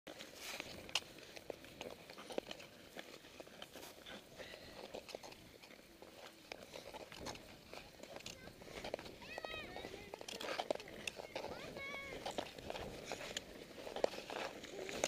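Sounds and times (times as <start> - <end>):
ice skate blades scraping ice: 0.1 - 15.0.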